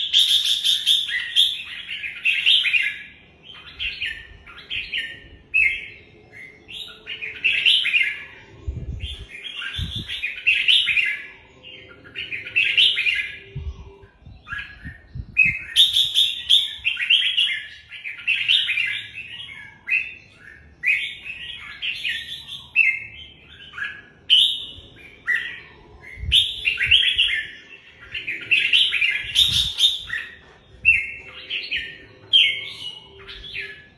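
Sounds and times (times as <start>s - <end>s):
bird singing warbled phrases: 0.0s - 33.9s.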